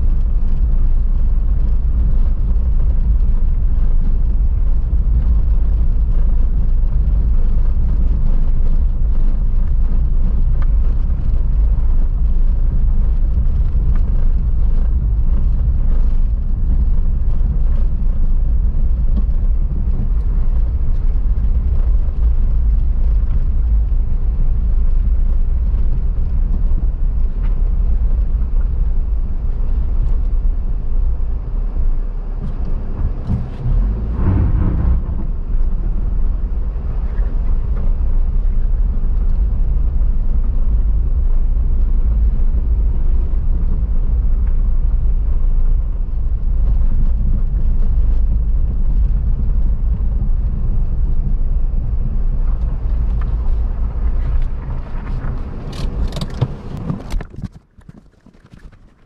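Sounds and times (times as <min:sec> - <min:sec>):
wind buffeting microphone: 0:00.0 - 0:57.8.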